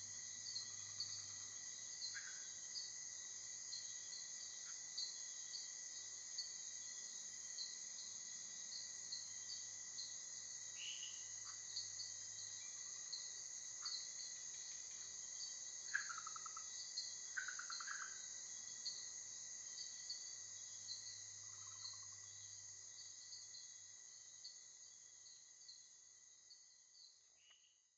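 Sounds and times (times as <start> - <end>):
high insect drone: 0.0 - 27.7.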